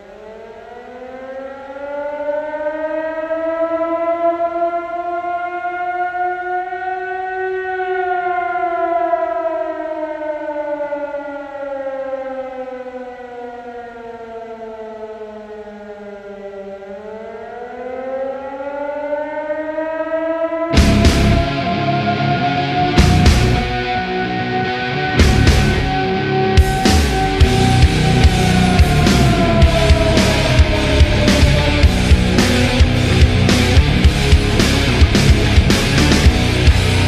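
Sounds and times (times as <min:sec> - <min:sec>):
air-raid siren: 0:00.0 - 0:37.0.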